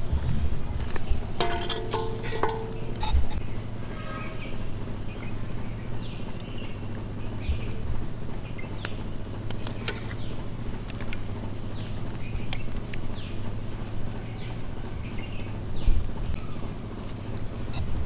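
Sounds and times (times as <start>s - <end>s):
low hum: 0.0s - 18.0s
bird chirping: 1.0s - 18.0s.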